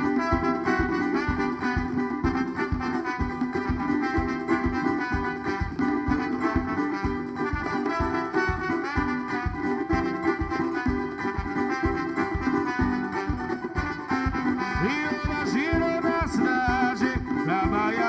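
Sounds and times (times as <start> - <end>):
band playing instrumental music: 0.0 - 18.0.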